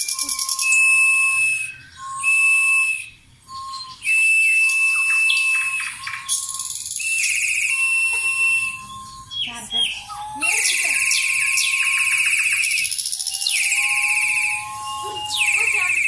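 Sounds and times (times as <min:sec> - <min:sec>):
toy bird whistles: 0:00.0 - 0:16.0
warbling whistle trill: 0:00.0 - 0:16.0.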